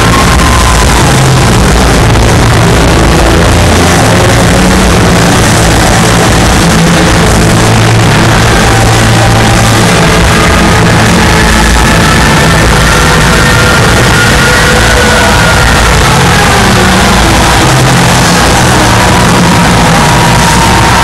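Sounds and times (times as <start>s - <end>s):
distorted live rock music: 0.0s - 21.0s
steady low bass line: 0.0s - 21.0s.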